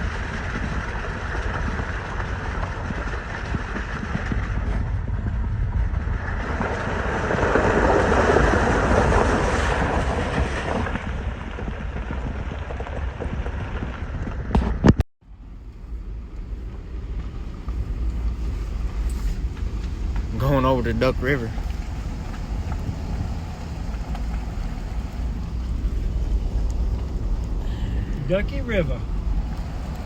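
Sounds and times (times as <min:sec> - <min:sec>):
tyre and wind noise: 0:00.0 - 0:30.0
vehicle engine and road rumble: 0:00.0 - 0:30.0.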